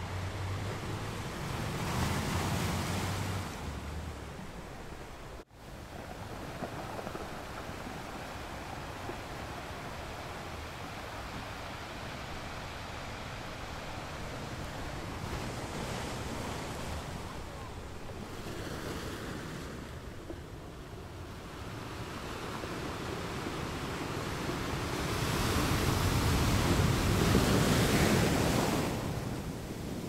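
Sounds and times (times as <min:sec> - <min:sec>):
sea waves washing: 0:00.0 - 0:30.0
wind buffeting microphone: 0:00.1 - 0:30.0.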